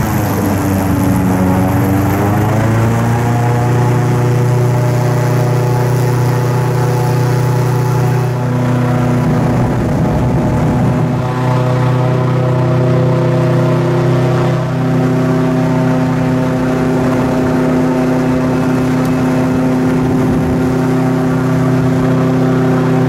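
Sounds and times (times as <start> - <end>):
airboat engine and propeller drone: 0.0 - 23.0.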